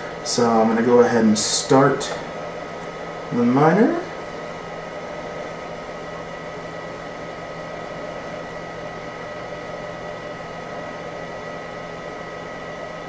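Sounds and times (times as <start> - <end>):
cooling fan whirring: 0.0 - 13.0.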